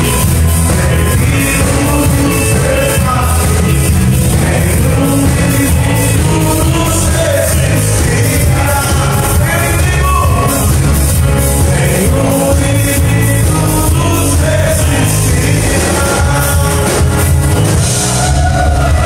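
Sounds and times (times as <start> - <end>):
voices singing: 0.0 - 17.2
electric guitars: 0.0 - 19.0
steady drum beat: 0.0 - 19.0.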